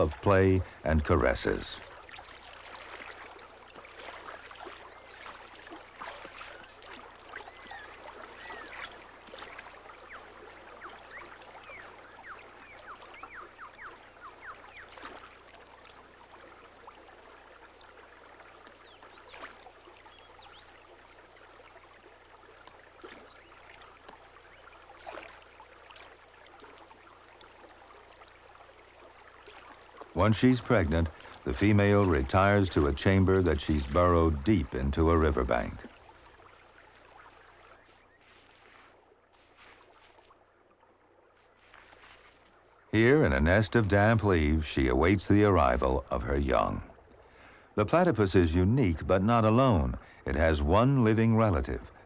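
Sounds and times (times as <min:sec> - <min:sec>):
stream water trickling: 0:00.0 - 0:52.0.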